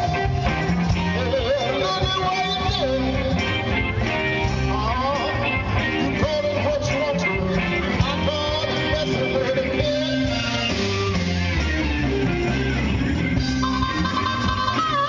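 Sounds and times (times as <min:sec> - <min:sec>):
bending lead guitar line: 0:00.0 - 0:15.0
live rock band playing: 0:00.0 - 0:15.0.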